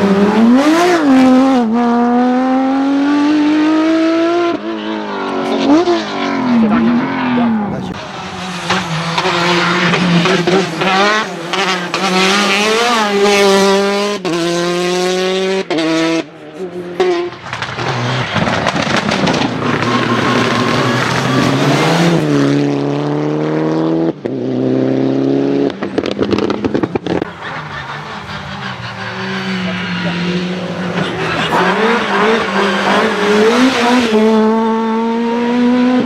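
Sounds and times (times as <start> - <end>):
rally car engines revving hard: 0.0 - 36.0.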